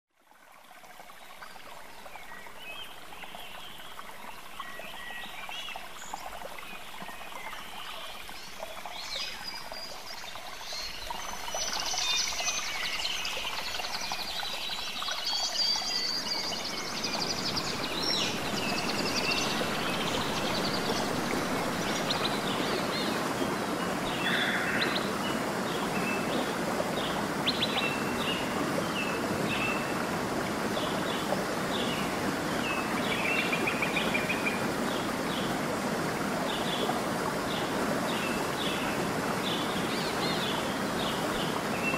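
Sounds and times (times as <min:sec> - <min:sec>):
waterfall rushing: 0:08.3 - 0:41.9.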